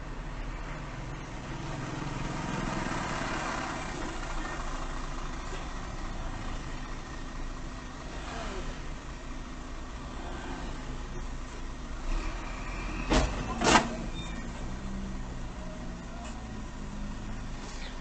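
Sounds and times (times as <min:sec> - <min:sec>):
car engines idling: 0:00.0 - 0:18.0.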